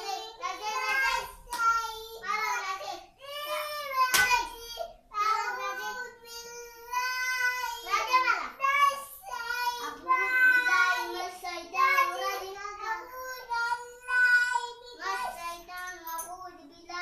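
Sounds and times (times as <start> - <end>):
child singing: 0.0 - 17.0.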